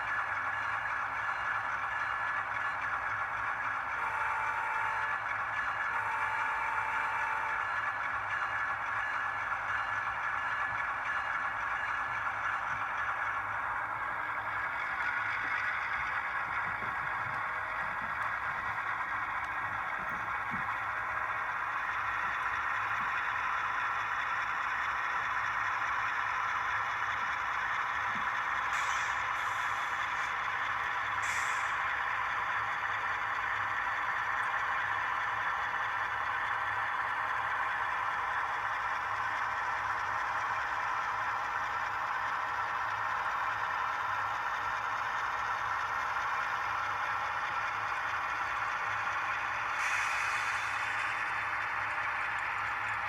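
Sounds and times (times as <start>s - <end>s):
model train running with whine: 0.0s - 53.0s.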